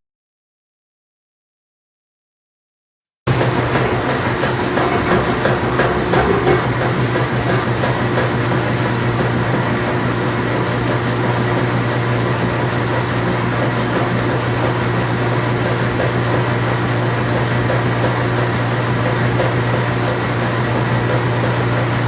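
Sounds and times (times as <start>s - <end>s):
engine humming steadily: 3.3s - 22.0s.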